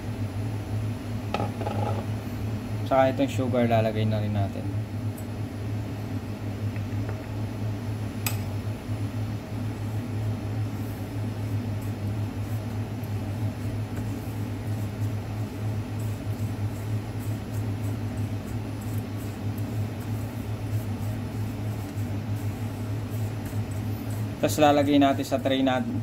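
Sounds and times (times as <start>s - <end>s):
low hum of fan or appliance: 0.0s - 26.0s.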